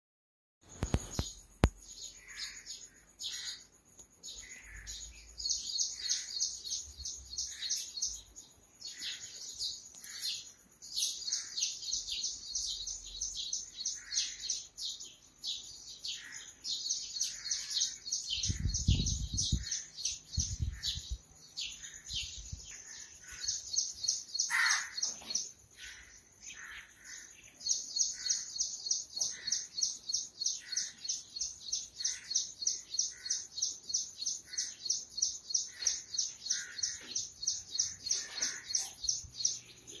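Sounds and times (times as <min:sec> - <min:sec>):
small birds chirping: 0:00.6 - 0:40.0.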